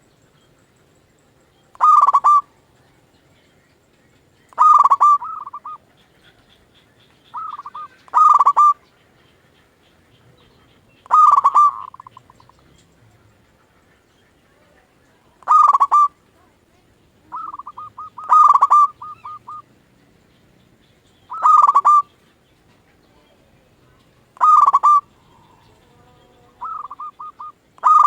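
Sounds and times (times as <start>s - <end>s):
dove cooing: 1.7s - 2.6s, 4.5s - 28.0s.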